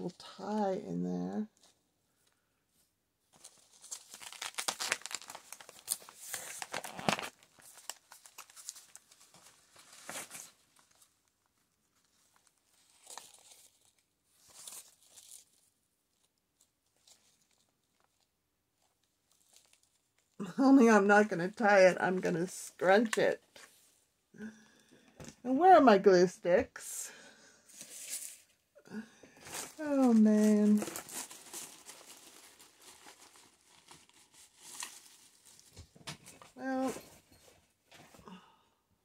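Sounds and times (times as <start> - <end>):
fabric and paper rustling: 1.5 - 24.0, 27.6 - 28.6, 29.3 - 38.2.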